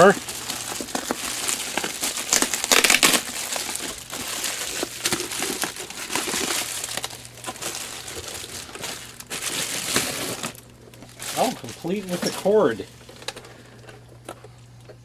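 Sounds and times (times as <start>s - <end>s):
bubble wrap crinkling and popping: 0.0s - 15.0s.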